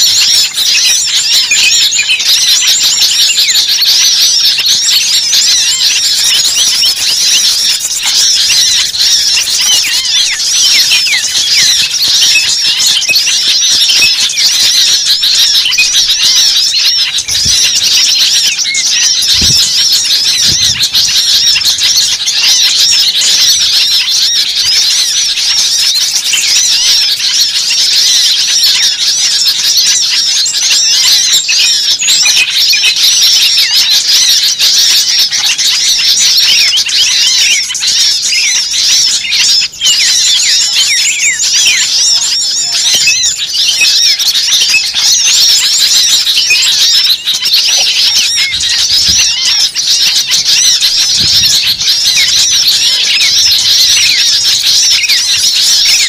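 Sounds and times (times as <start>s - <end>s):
chorus of small birds chirping: 0.0s - 56.0s.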